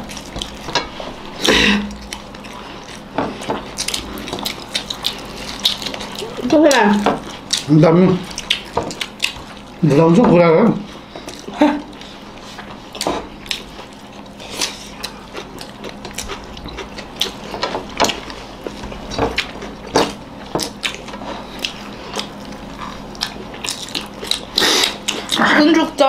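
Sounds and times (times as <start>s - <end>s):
chewing and mouth smacks: 0.0s - 9.8s, 11.2s - 25.5s.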